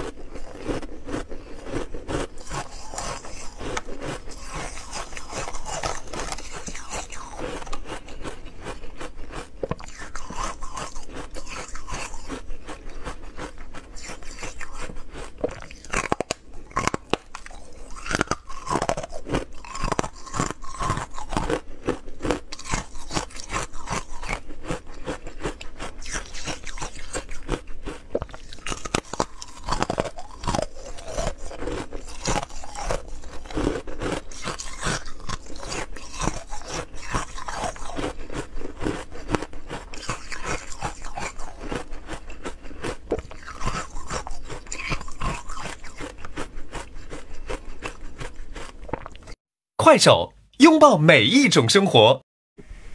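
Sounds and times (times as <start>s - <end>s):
ice crunching being chewed: 0.0s - 49.4s.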